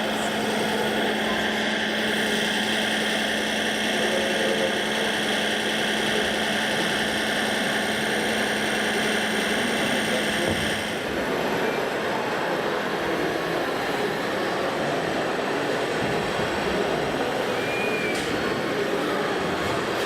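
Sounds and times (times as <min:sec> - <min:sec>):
mechanical hum and whir: 0:00.0 - 0:20.0.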